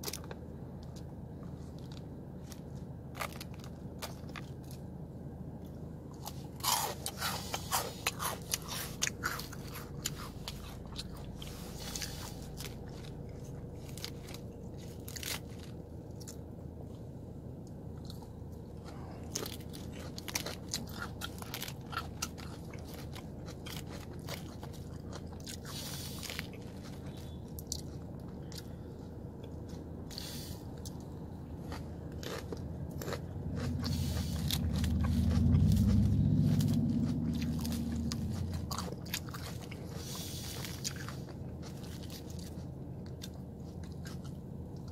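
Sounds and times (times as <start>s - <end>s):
person chewing crunchy food: 0.0s - 44.9s
steady low hum: 0.0s - 44.9s.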